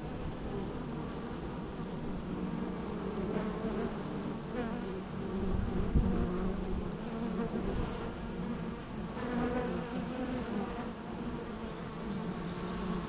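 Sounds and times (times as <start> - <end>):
bees buzzing: 0.3 - 13.0.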